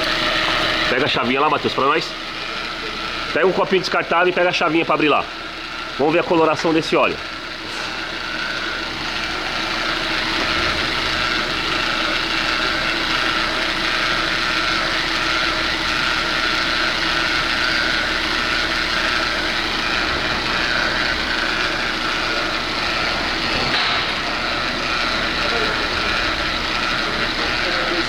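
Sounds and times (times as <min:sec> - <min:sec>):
car engine idling: 0:00.0 - 0:28.0
transmission whine: 0:00.0 - 0:28.0.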